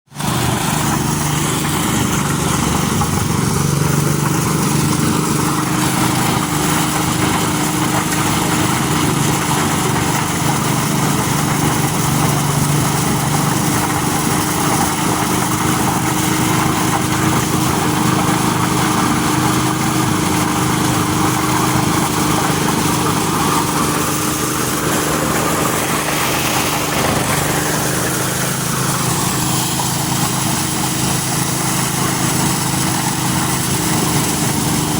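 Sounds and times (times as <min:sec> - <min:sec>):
corn sheller noise: 0:00.1 - 0:34.9
engine hum: 0:00.1 - 0:34.9.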